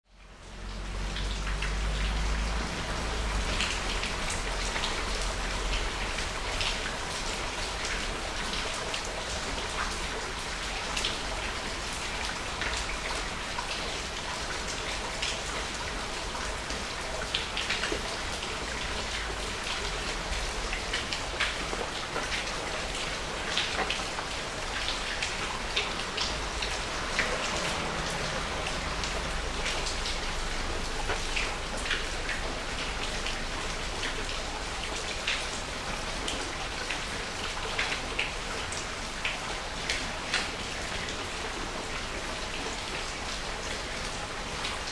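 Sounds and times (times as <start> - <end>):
rain falling into a puddle: 0.0 - 44.9.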